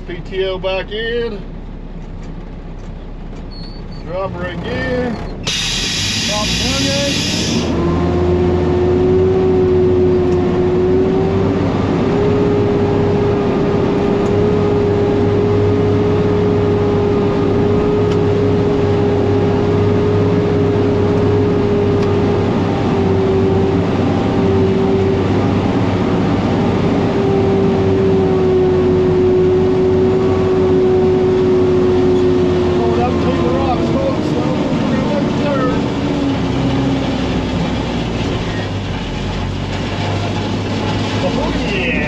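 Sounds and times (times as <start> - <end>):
diesel engine running under load: 0.0 - 42.0
steady whine: 0.0 - 42.0.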